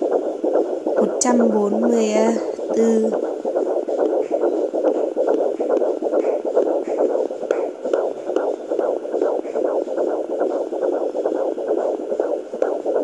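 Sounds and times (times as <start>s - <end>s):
fetal heartbeat on doppler: 0.0s - 13.0s.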